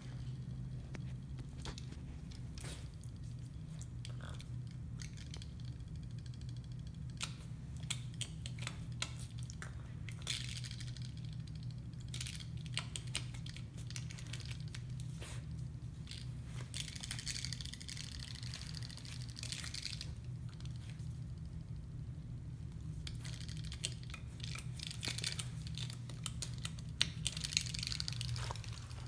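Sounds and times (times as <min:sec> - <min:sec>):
puppy chewing and gnawing: 0:00.0 - 0:21.8, 0:22.6 - 0:29.0
steady low hum: 0:00.0 - 0:29.0.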